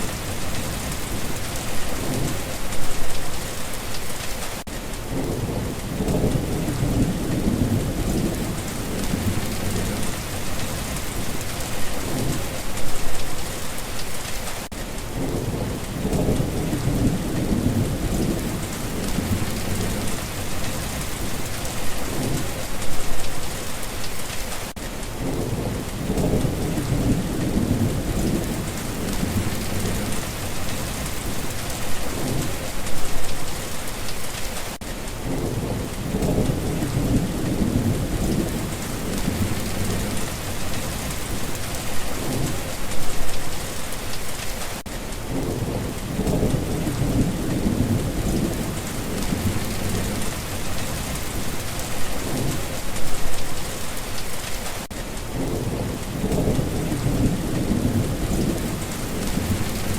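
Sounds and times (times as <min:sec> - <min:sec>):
rolling thunder rumbles: 0:00.0 - 0:03.6, 0:05.0 - 0:13.6, 0:14.2 - 0:23.6, 0:25.2 - 0:33.7, 0:35.2 - 0:44.0, 0:44.8 - 0:53.9, 0:54.7 - 0:59.9
steady rain falling: 0:00.0 - 0:59.9.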